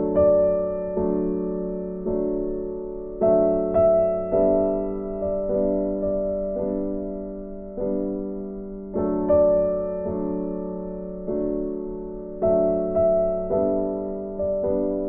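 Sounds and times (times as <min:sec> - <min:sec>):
slow soft instrumental music: 0:00.0 - 0:15.0.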